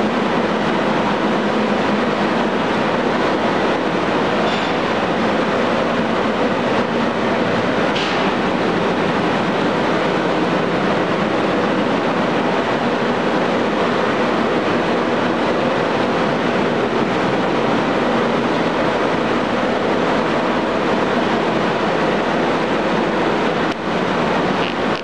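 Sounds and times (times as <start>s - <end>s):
refrigeration compressor running: 0.0s - 25.0s.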